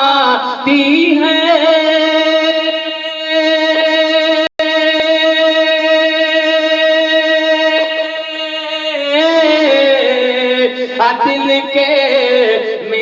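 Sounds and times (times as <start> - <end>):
person singing a long note: 0.0 - 13.0.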